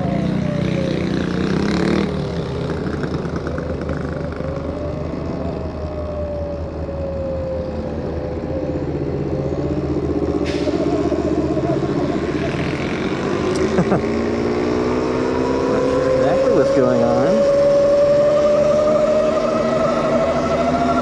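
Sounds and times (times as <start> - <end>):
road and wind rumble: 0.0 - 21.0.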